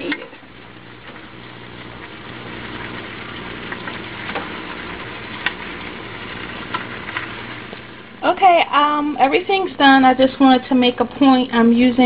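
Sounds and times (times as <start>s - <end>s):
vegetables sizzling in a wok: 0.0s - 10.8s.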